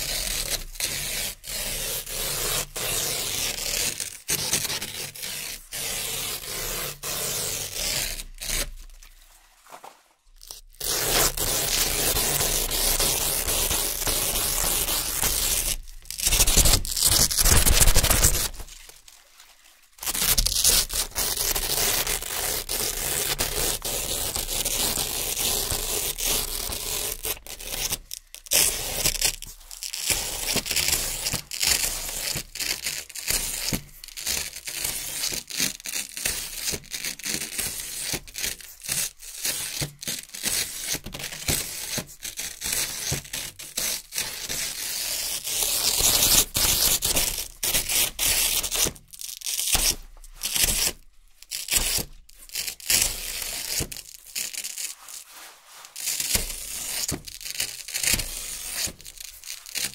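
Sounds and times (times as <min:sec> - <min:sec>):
hook-and-loop strips ripping: 0:00.0 - 0:59.9.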